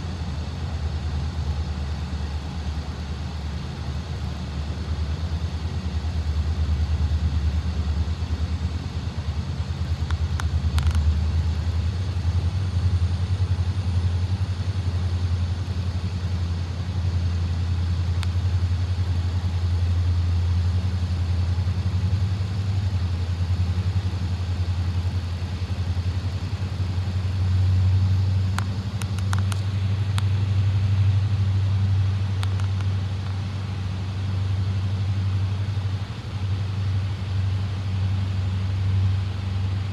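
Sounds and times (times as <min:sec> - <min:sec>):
locomotive engine rumbling: 0:00.0 - 0:39.9.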